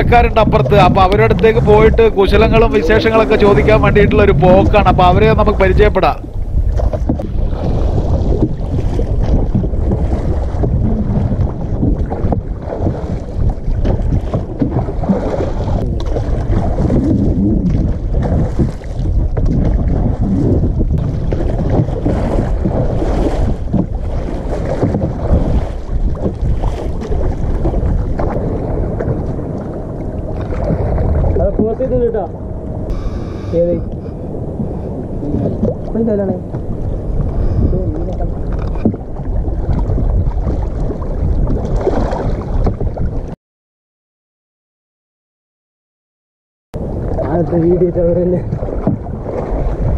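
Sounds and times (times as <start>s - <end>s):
water splashing around rowboat: 0.0s - 43.4s, 46.8s - 49.9s
wind buffeting microphone: 0.0s - 43.4s, 46.8s - 49.9s.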